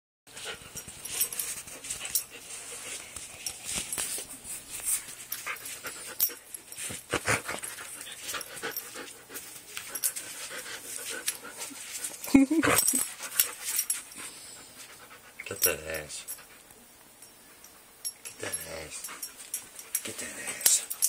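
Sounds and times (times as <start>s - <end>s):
dog paws scuffling and clicking: 0.3s - 16.6s, 18.1s - 21.0s.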